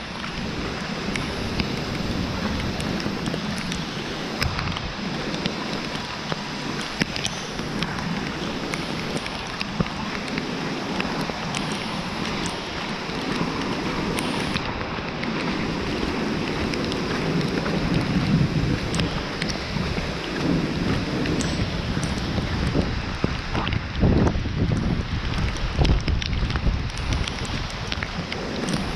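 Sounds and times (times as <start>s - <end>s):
steady rain falling: 0.0s - 28.9s
wind buffeting microphone: 0.0s - 28.9s.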